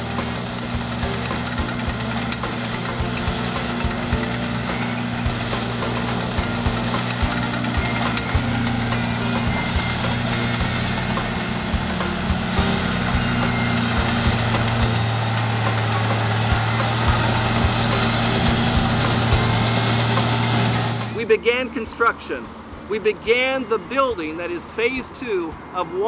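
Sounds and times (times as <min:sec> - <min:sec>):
knocks and clanks: 0:00.0 - 0:21.2
diesel loader engines running: 0:00.0 - 0:26.0.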